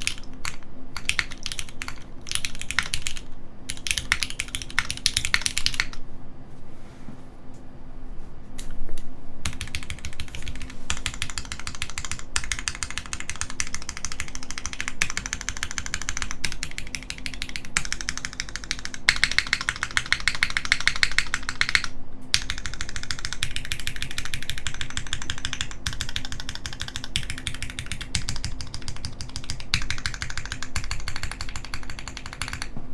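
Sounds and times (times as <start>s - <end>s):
fast mechanical keyboard typing: 0.0s - 6.0s, 9.4s - 32.7s.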